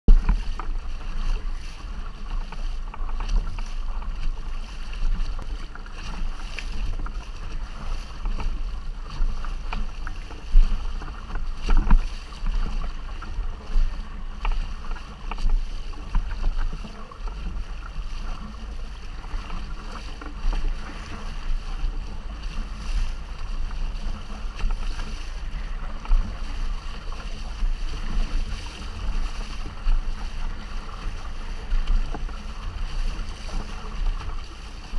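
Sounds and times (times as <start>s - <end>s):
water rushing past hull: 0.1s - 34.9s
wind buffeting microphone: 0.1s - 34.9s.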